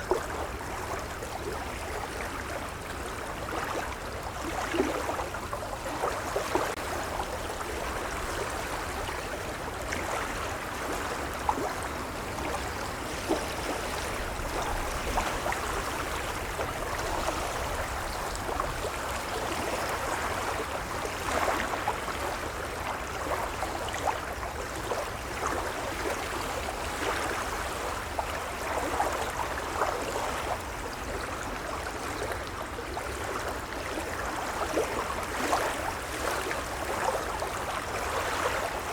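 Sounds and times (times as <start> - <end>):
waves lapping: 0.0 - 38.9.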